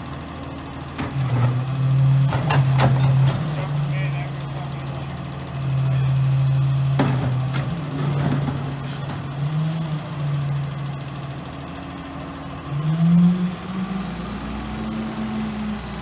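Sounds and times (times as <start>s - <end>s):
garbage truck diesel engine: 0.0s - 16.0s.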